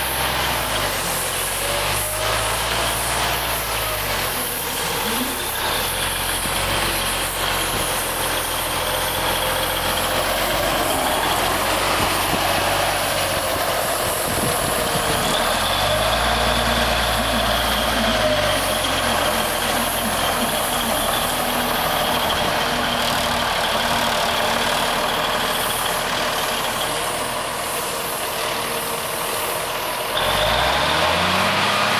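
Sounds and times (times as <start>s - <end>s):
truck engine running: 0.0s - 31.9s.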